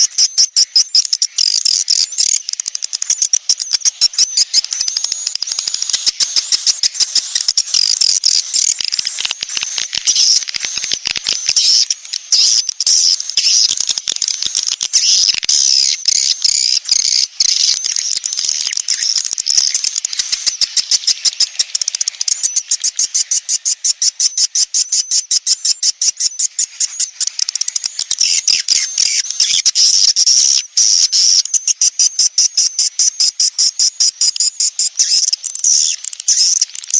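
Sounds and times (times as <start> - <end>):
swiftlet chirps and twittering: 0.0 - 36.9.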